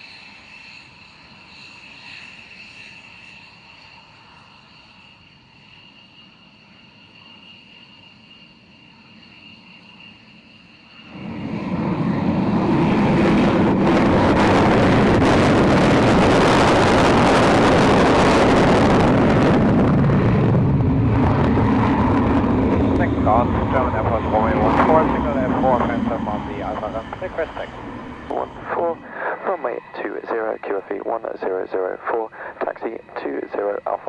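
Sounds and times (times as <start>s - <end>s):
aircraft engines roaring: 0.0s - 34.0s.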